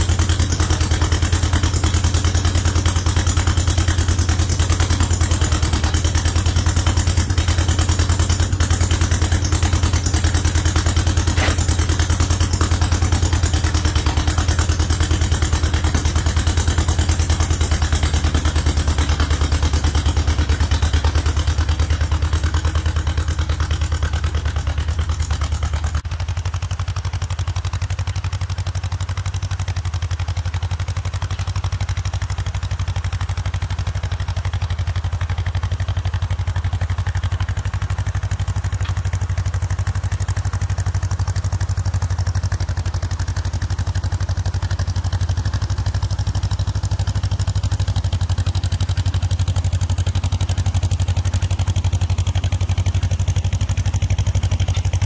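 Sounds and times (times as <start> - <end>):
two-cylinder tractor engine running: 0.0 - 55.0.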